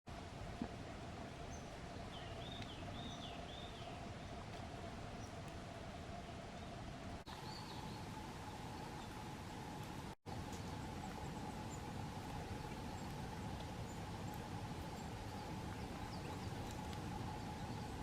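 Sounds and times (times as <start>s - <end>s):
faint hum: 0.1s - 18.0s
outdoor background hiss: 0.1s - 18.0s
songbird chirping: 1.4s - 4.5s, 6.2s - 18.0s.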